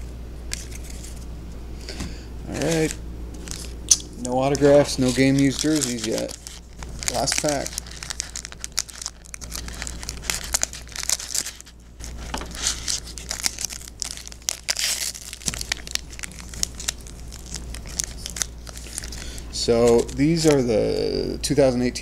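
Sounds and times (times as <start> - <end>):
foil wrapper crinkling and tearing: 0.5 - 1.2, 2.5 - 20.7.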